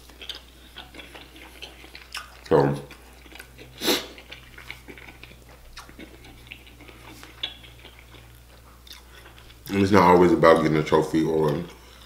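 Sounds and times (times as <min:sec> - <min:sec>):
close chewing food: 0:00.0 - 0:12.0.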